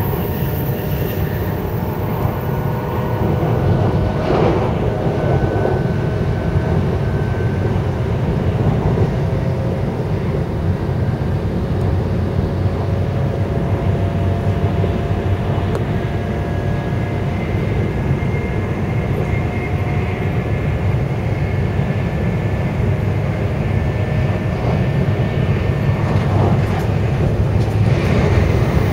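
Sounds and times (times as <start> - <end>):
train low rumble: 0.0 - 28.9.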